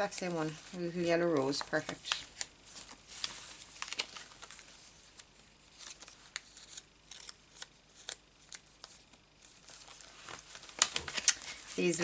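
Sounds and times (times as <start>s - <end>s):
paper pieces ticking and rustling: 0.0s - 12.0s.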